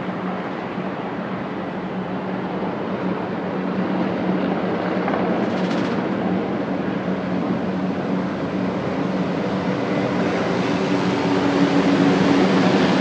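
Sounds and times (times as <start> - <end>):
helicopters flying over: 0.0 - 13.0.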